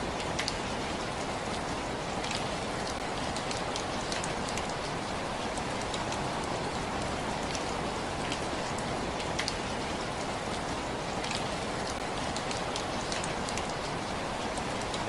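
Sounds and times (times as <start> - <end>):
raindrops ticking close by: 0.0 - 15.0
steady rain hiss: 0.0 - 15.0.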